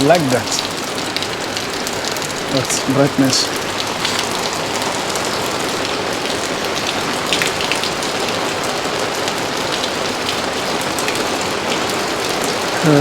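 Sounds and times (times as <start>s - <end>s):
heavy rain on hard surfaces: 0.0s - 13.0s.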